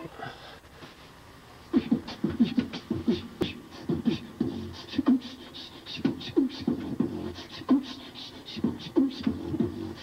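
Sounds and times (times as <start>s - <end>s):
person beatboxing: 1.7s - 10.0s.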